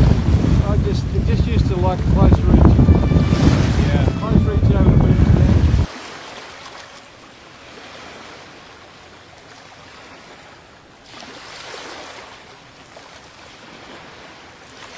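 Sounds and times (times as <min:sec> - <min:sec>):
water rushing past hull: 0:00.0 - 0:14.9.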